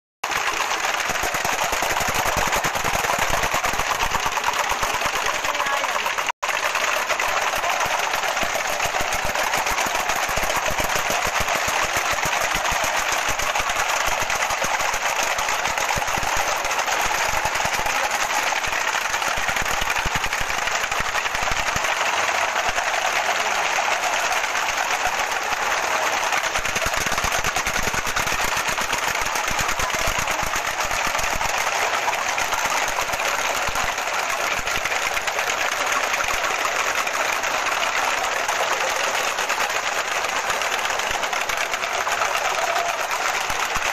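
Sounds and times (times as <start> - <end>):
ratchet noisemakers rattling: 0.2 - 43.9.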